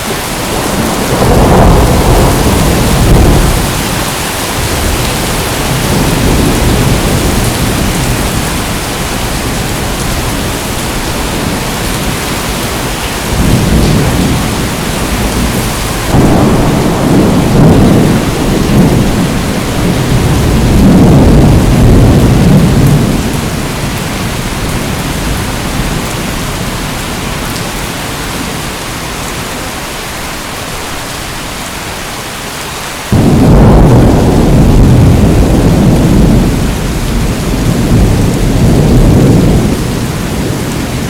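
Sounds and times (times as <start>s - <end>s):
rolling thunder: 0.0s - 27.0s, 33.1s - 41.0s
heavy rain: 0.0s - 41.0s.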